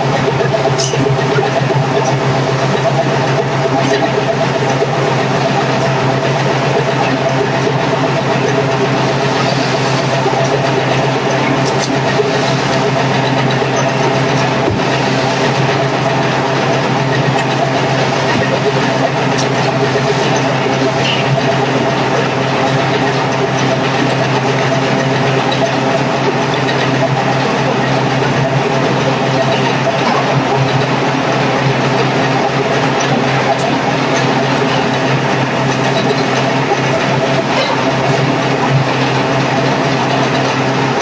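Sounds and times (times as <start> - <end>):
machine humming: 0.0 - 41.0.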